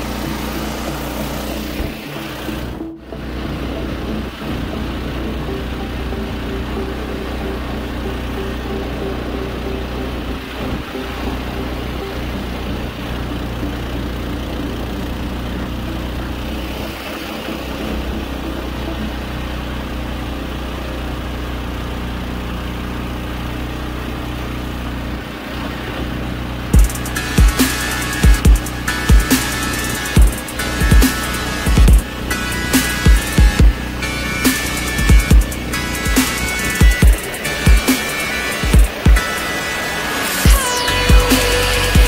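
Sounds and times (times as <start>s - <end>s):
boat motor running steadily: 0.0s - 42.0s.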